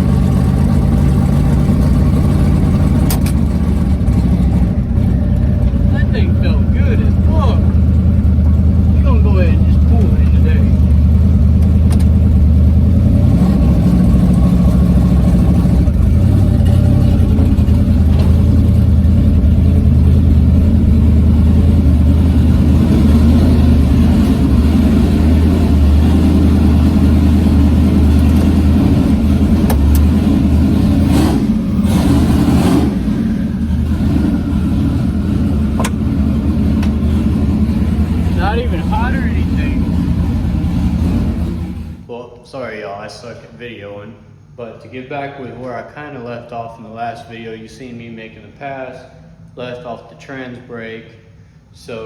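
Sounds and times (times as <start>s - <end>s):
engine running loud: 0.0s - 42.1s.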